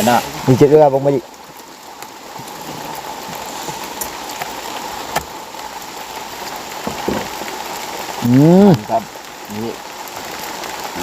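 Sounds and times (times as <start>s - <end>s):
rain falling: 0.0s - 11.0s
sharp raindrop hits: 0.0s - 11.0s.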